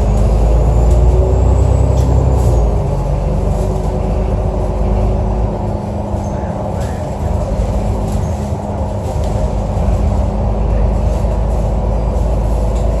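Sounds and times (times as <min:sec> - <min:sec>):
bus engine droning: 0:00.0 - 0:13.0.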